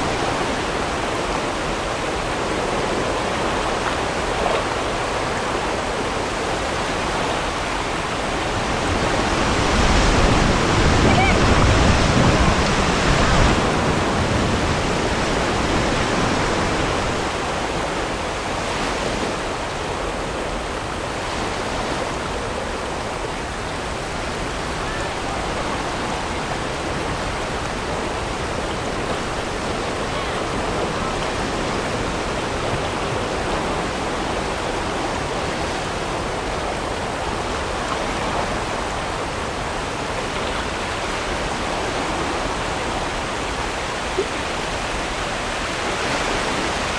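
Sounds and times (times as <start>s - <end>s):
rapids rushing over boulders: 0.0s - 46.9s.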